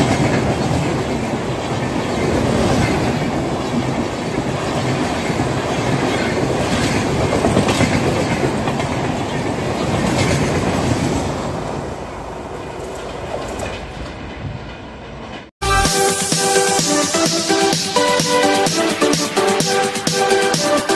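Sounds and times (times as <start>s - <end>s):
train passing at speed: 0.0s - 20.9s.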